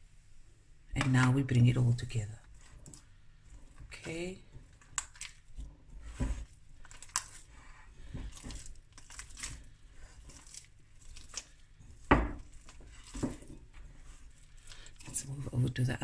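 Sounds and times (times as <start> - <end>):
hands squishing dough: 0.8 - 16.0.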